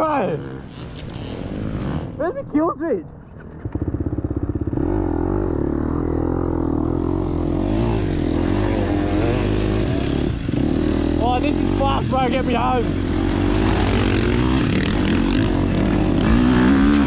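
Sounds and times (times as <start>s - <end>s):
dirt bike engine running: 0.0s - 2.0s, 3.3s - 17.0s.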